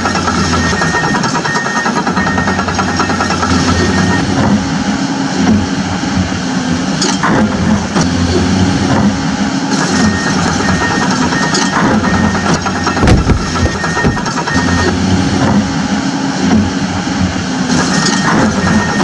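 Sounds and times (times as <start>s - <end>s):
high motor whine: 0.0s - 19.0s.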